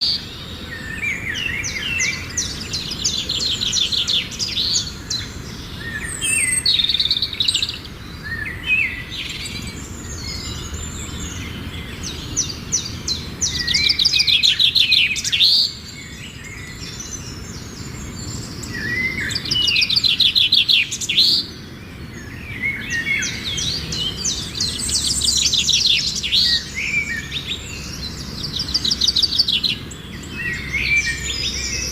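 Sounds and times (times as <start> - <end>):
songbird trilling and chirping: 0.0 - 31.9.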